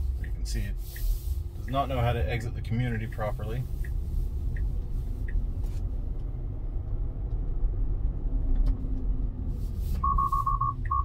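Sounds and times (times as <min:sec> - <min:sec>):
road and tyre rumble: 0:00.0 - 0:11.0.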